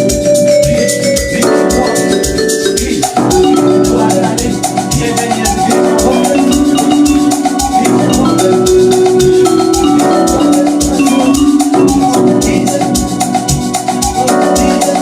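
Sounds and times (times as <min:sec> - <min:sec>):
dance beat with kick drum: 0:00.0 - 0:15.0
fast ticking percussion: 0:00.0 - 0:15.0
held keyboard notes: 0:00.0 - 0:15.0.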